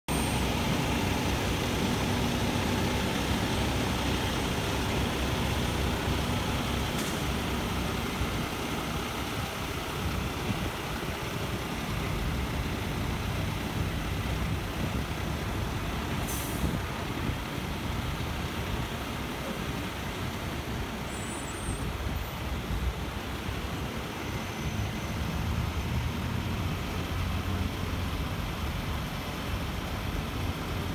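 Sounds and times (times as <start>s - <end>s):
truck diesel engine rumble: 0.1s - 30.9s
tyre and road noise: 0.1s - 30.9s.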